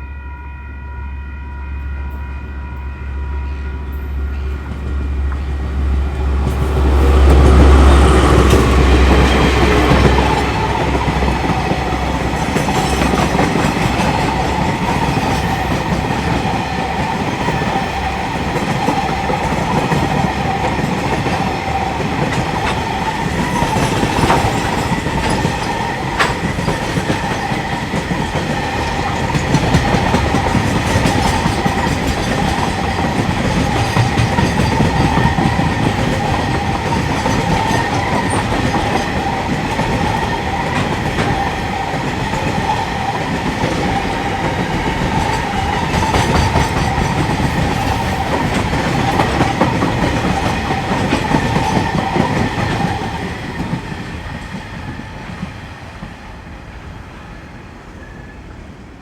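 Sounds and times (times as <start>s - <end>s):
train wheels clattering on rails: 4.4s - 56.3s.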